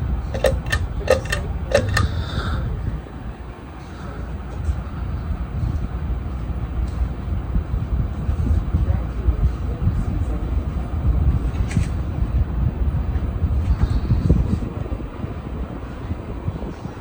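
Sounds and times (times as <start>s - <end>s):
ceiling fan airflow rumble: 0.0s - 17.0s.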